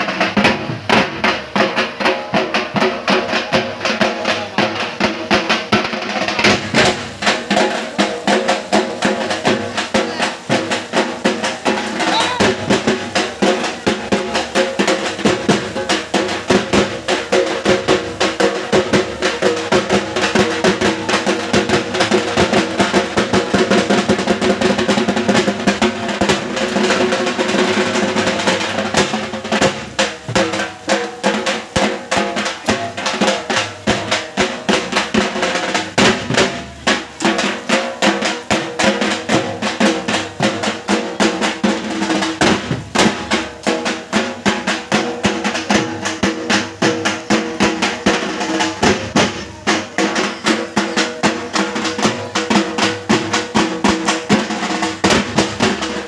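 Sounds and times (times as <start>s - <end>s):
barrel drums beaten with sticks: 0.0s - 56.0s.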